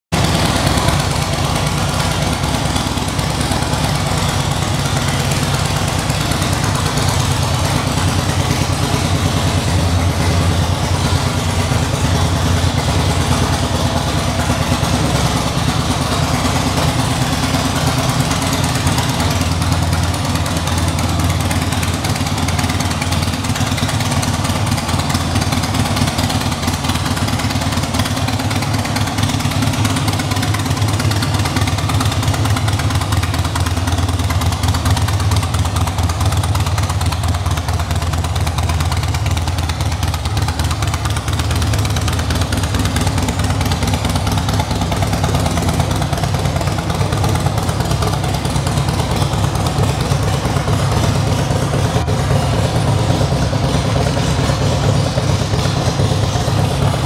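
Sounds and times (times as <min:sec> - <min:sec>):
motorcycle engine idling: 0:00.1 - 0:57.0.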